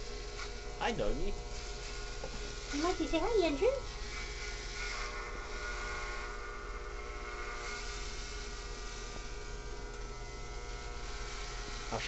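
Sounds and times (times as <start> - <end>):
hair clippers buzzing: 0.0 - 12.0.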